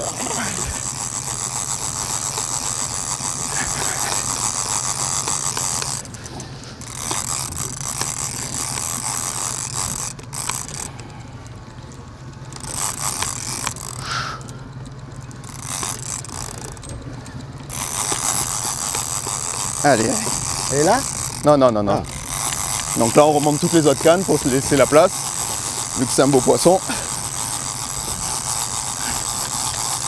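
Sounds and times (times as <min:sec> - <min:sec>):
fishing reel ratcheting: 0:00.0 - 0:30.0
steady low hum: 0:00.0 - 0:30.0.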